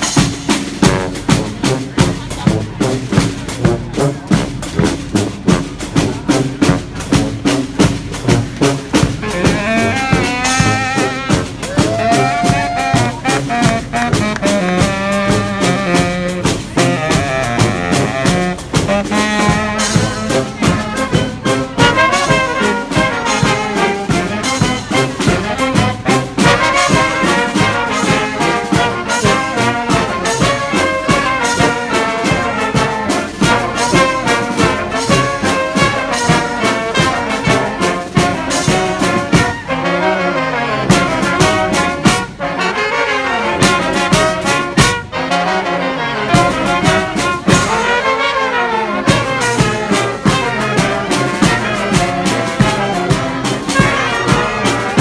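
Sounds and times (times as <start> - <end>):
steady drum beat: 0.0 - 39.8, 40.8 - 42.5, 43.5 - 45.2, 46.2 - 48.3, 48.9 - 55.0
trumpets and trombones melody: 0.0 - 55.0.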